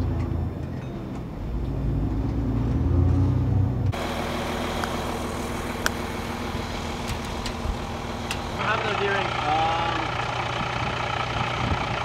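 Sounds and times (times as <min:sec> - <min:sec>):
heavy vehicle engine drone: 0:00.0 - 0:12.0.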